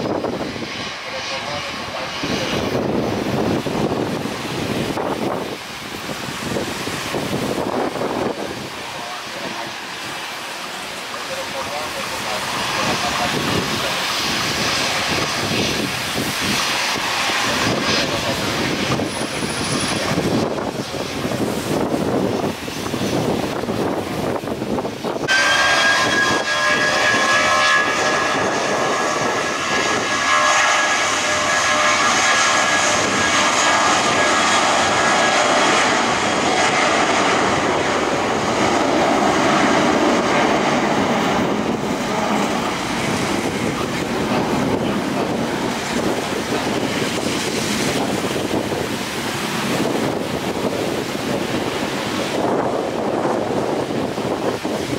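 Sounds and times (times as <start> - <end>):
jet engines roaring past: 0.0 - 54.9
high fan whine: 1.0 - 54.9.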